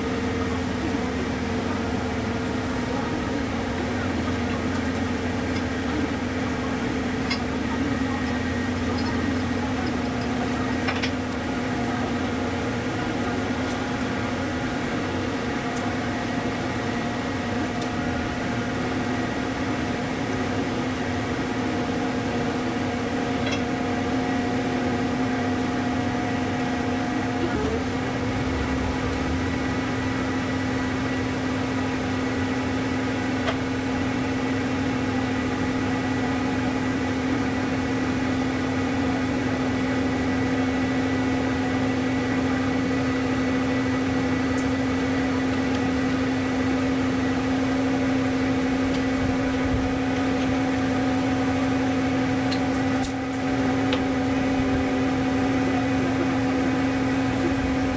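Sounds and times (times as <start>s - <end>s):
steady machine hum: 0.0s - 57.9s.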